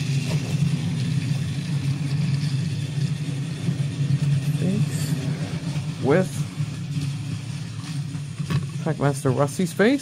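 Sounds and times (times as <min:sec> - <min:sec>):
toy train motor humming: 0:00.0 - 0:10.0.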